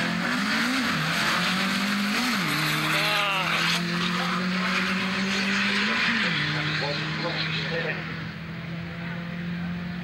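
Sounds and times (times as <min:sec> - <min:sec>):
drag car engine revving: 0:00.0 - 0:10.0
second drag car engine: 0:00.0 - 0:10.0.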